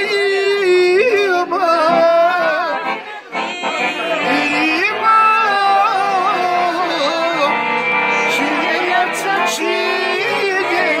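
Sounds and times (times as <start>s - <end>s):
man singing: 0.0s - 11.0s
piano accordion: 0.0s - 11.0s.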